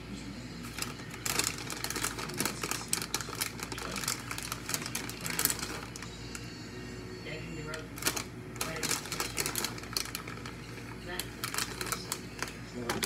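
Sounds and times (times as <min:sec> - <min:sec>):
plastic bag crinkling: 0:00.6 - 0:06.4, 0:07.8 - 0:13.0.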